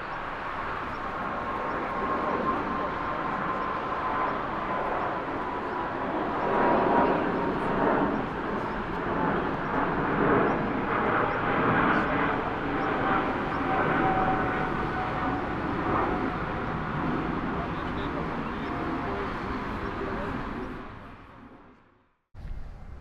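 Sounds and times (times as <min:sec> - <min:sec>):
jet engines passing: 0:00.0 - 0:23.0.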